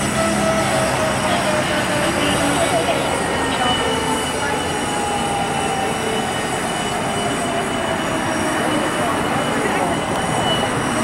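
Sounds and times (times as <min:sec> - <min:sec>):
helicopter rotor and turbine noise: 0:00.0 - 0:11.0
high turbine whine: 0:00.0 - 0:11.0
low falling whine: 0:00.0 - 0:11.0.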